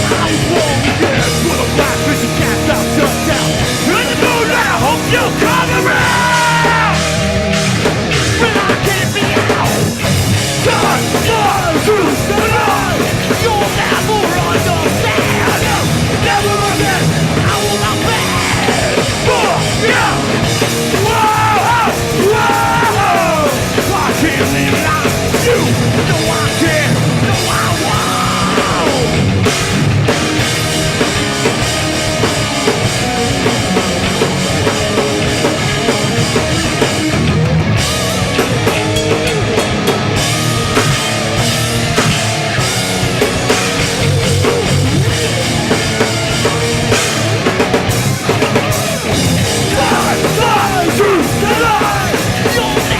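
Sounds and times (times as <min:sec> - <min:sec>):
punk band playing live: 0:00.0 - 0:52.9.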